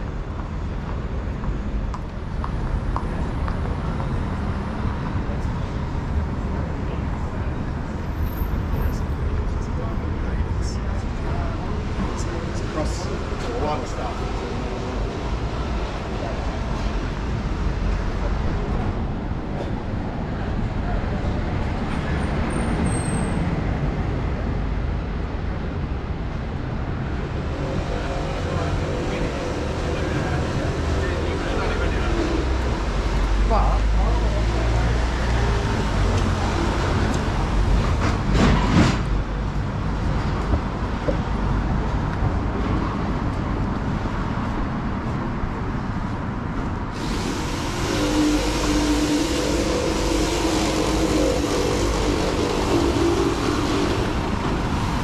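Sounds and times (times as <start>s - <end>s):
traffic rumble: 0.0s - 55.0s.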